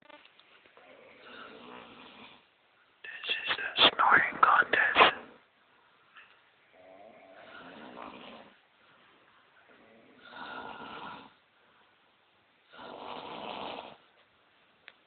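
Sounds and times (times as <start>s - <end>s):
quiet breaths: 0.4s - 15.0s.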